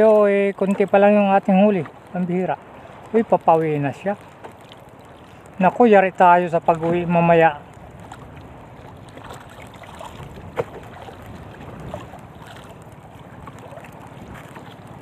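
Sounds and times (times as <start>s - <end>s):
waves lapping against wooden hull: 0.0s - 15.0s
wind: 0.0s - 15.0s.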